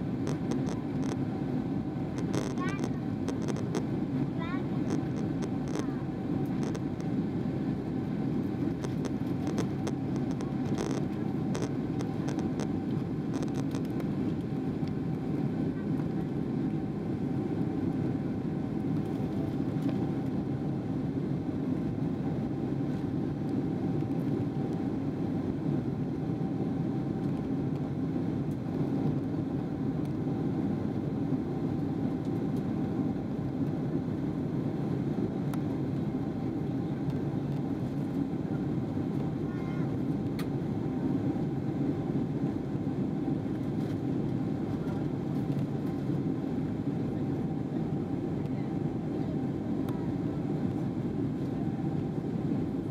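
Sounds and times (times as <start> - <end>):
faint steady hum: 0.0 - 52.9
jet engine cabin rumble: 0.0 - 52.9.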